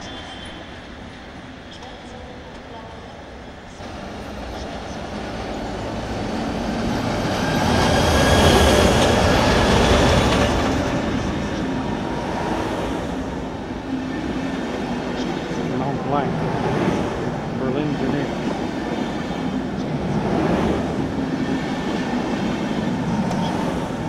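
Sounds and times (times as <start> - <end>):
train rumbling over rails: 0.0 - 24.0.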